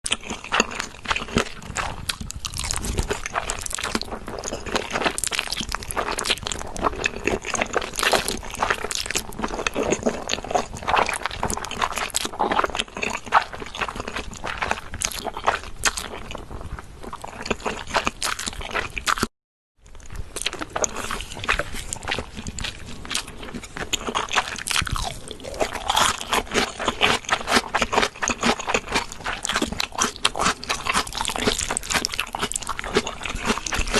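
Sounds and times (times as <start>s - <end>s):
crunchy chewing: 0.1s - 33.9s.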